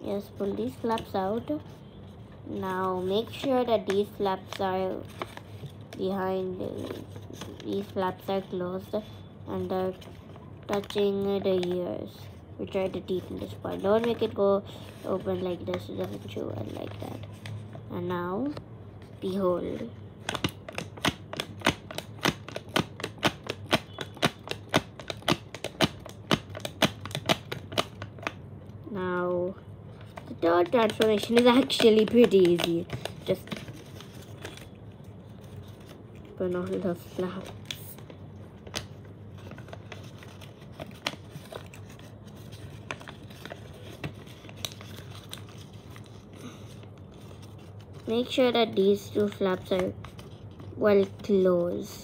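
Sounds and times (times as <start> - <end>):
stiff paper clicking and crackling: 2.6 - 17.7, 19.2 - 28.4, 30.0 - 52.0.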